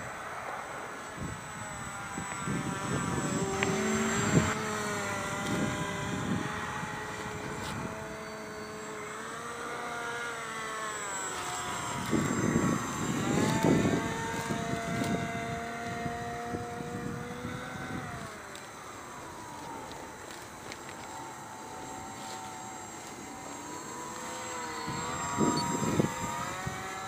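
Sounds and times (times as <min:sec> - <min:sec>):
model airplane motor whining: 0:00.0 - 0:27.0.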